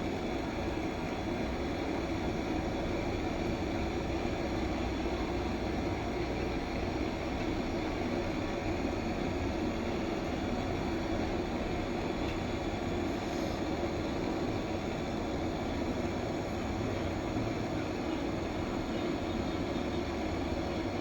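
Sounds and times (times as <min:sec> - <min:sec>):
air conditioner running: 0:00.0 - 0:21.0.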